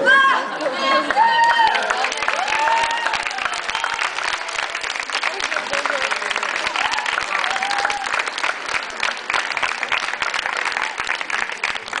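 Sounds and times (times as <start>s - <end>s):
group applauding: 0.2s - 12.0s.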